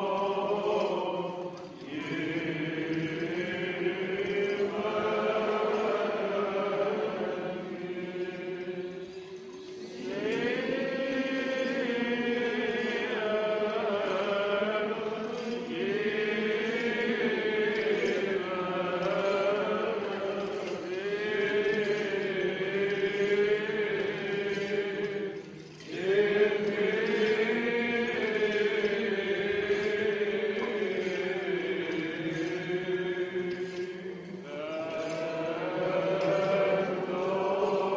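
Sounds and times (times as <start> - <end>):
voices chanting a slow hymn: 0.0 - 37.9.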